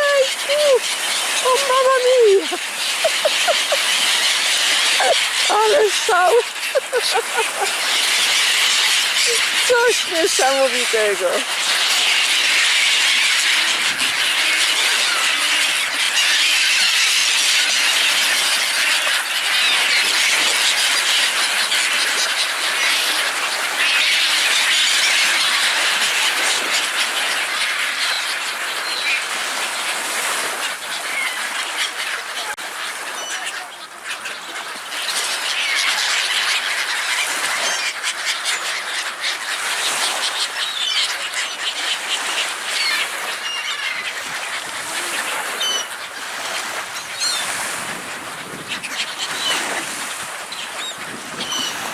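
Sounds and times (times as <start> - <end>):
water birds calling: 0.0 - 51.9.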